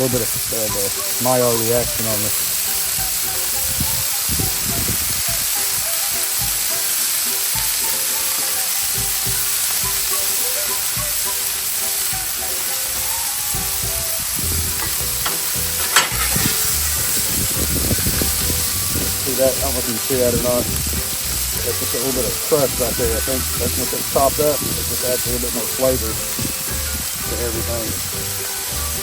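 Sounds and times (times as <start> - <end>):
meat sizzling on a griddle: 0.0 - 29.0.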